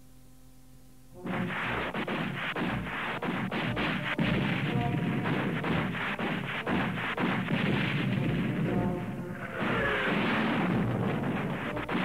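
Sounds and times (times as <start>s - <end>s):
gunshots: 1.2s - 12.0s
artillery booms: 2.0s - 12.0s.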